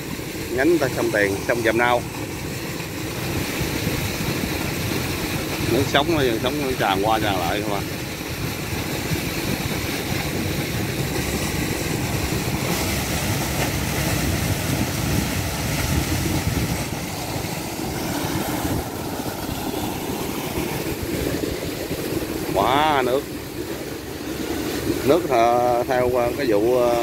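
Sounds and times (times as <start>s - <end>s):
pumping station rumble: 0.0s - 27.0s
water gushing: 0.0s - 27.0s.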